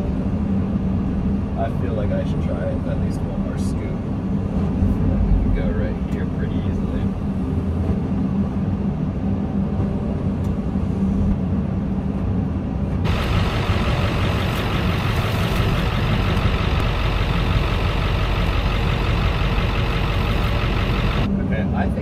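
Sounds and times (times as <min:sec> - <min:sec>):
heavy diesel engines running: 0:00.0 - 0:22.0.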